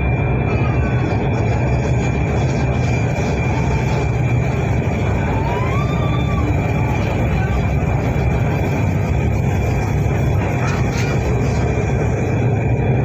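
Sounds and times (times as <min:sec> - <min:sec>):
high whine: 0:00.0 - 0:13.0
metro train rumble: 0:00.0 - 0:13.0.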